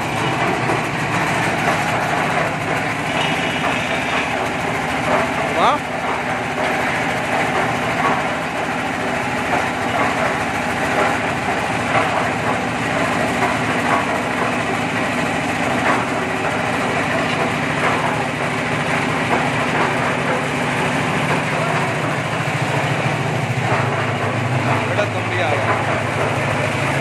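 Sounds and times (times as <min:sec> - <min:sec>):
concrete mixer humming: 0:00.0 - 0:27.0.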